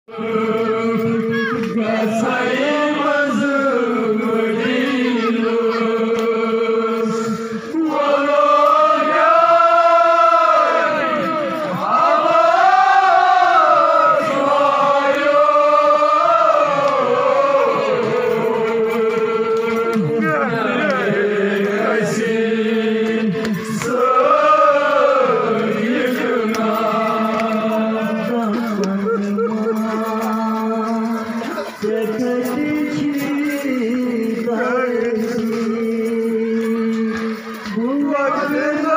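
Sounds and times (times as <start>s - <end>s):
men chanting together: 0.1s - 38.9s.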